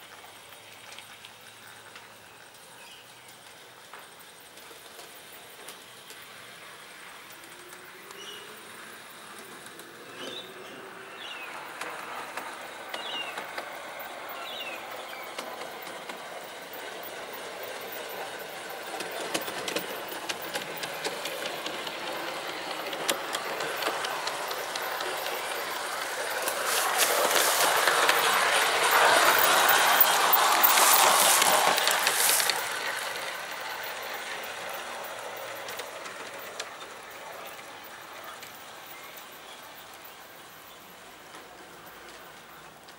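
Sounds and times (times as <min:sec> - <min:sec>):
model train wheels clicking: 0:00.0 - 0:42.9.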